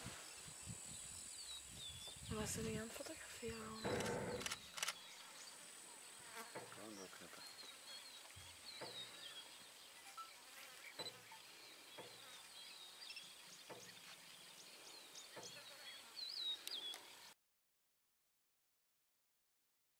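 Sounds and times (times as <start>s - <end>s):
insects buzzing: 0.0s - 17.3s.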